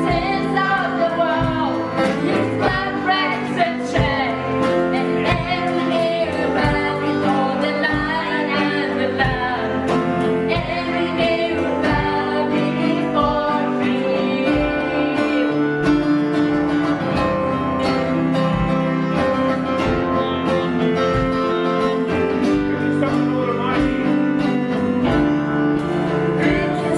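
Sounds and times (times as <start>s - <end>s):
guitar-led band: 0.0s - 26.9s
voices singing: 0.0s - 26.9s.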